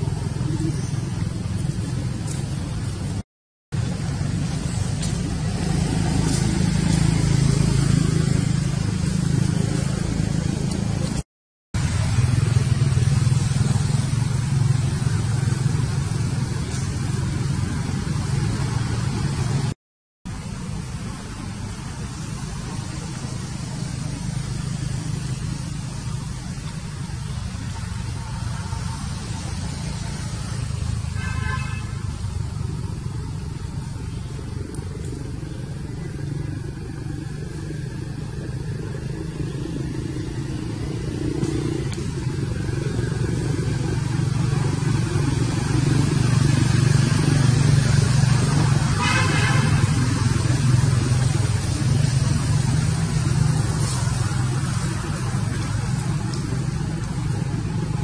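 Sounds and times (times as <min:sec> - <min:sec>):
low engine drone: 0:00.0 - 0:11.2, 0:11.8 - 0:58.0.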